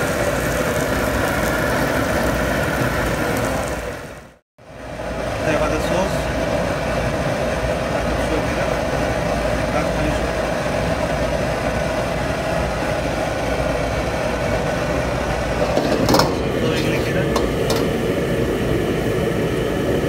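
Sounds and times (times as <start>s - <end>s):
gas wok burner roaring: 0.0s - 20.0s.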